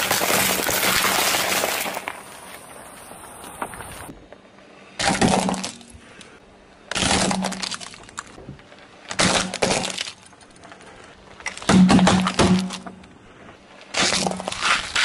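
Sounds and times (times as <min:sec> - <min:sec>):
plastic toys crunching under tyre: 0:00.0 - 0:04.1, 0:05.0 - 0:08.4, 0:09.0 - 0:12.8, 0:13.8 - 0:15.0.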